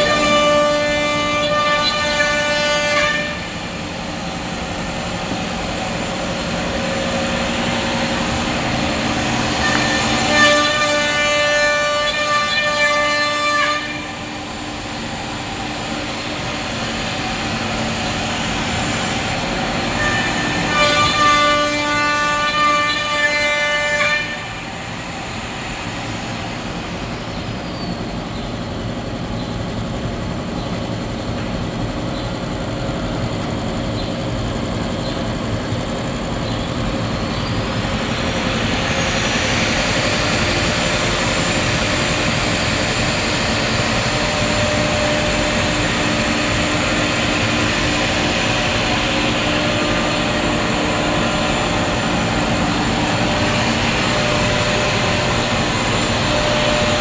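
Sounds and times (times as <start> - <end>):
cnc router machine noise: 0.0 - 57.0
loud high pitched whine: 0.0 - 57.0.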